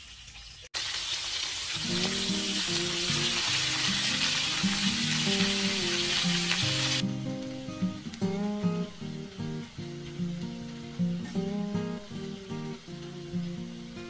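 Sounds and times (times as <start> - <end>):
squid sizzling in a hot wok: 0.0 - 14.0.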